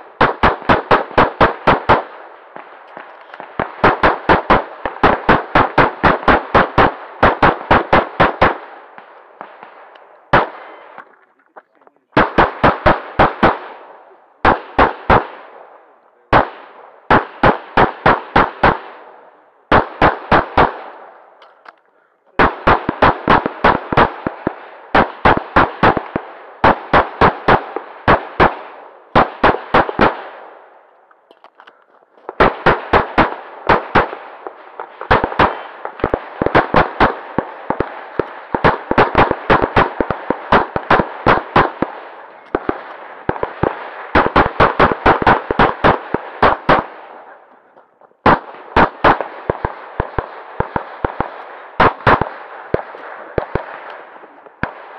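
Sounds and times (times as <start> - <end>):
rapid pistol fire: 0.0 - 10.8, 12.2 - 15.6, 16.3 - 21.0, 22.4 - 30.6, 32.3 - 47.2, 48.2 - 54.0.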